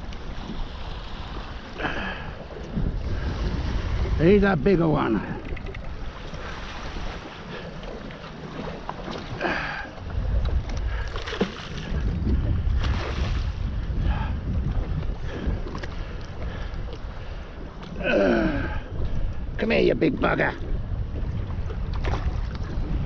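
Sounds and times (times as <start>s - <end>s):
water splashing beside a boat: 0.0s - 23.0s
wind rumbling on microphone: 0.0s - 23.0s.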